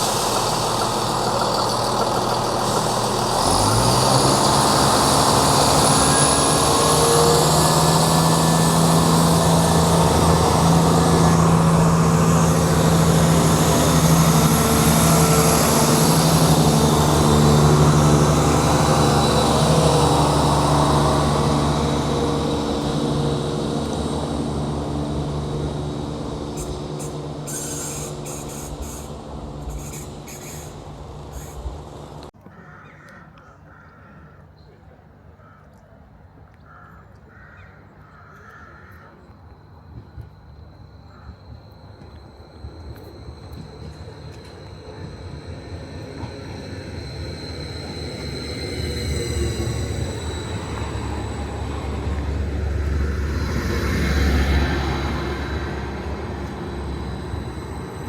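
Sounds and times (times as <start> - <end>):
diesel train engine running: 0.0 - 32.4, 37.9 - 58.0.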